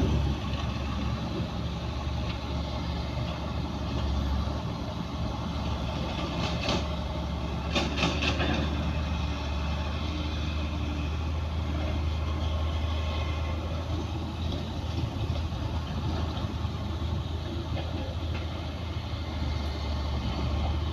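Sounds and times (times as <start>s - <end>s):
heavy diesel engine running: 0.0s - 20.9s.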